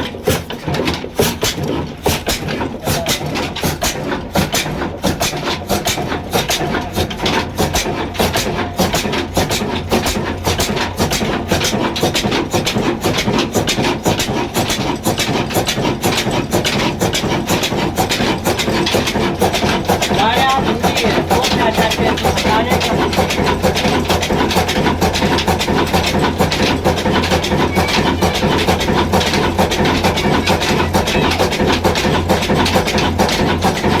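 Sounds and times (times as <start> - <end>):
stationary diesel engine running: 0.0 - 34.0.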